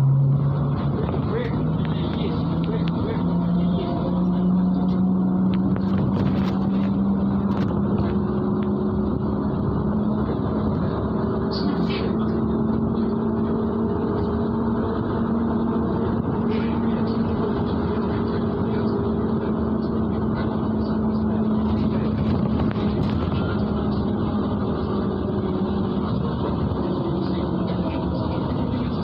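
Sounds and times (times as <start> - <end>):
bus engine hum: 0.0 - 29.0
road noise: 0.0 - 29.0.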